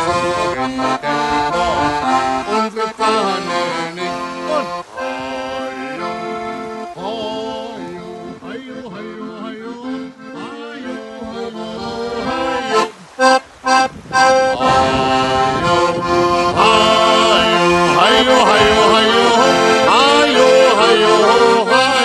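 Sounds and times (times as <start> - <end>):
accordion chords: 0.0 - 22.0.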